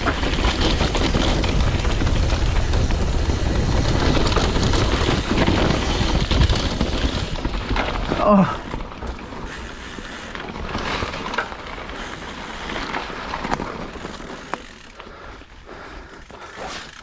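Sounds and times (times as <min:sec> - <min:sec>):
bike rattling over bumps: 0:00.0 - 0:17.0
bike tyres on muddy trail: 0:00.0 - 0:17.0.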